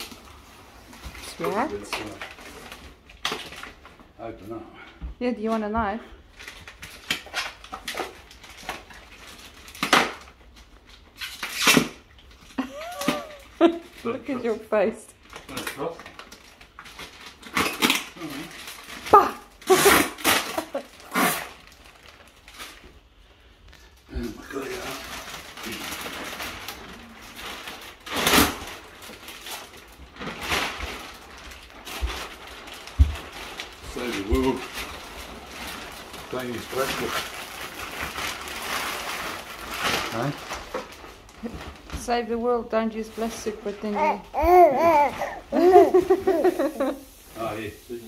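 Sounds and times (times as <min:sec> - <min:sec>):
plastic bag crinkling: 0:00.0 - 0:04.4, 0:06.2 - 0:48.0.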